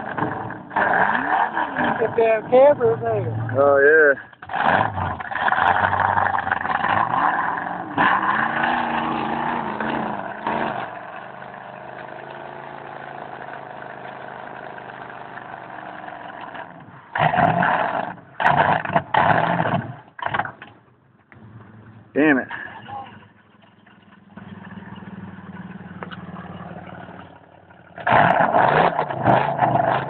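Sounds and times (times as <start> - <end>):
truck engine revving in mud: 0.0 - 20.6, 22.2 - 30.0.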